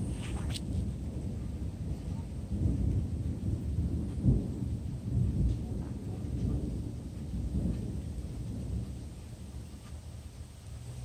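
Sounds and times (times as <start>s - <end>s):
thunder rumbling: 0.0s - 11.0s.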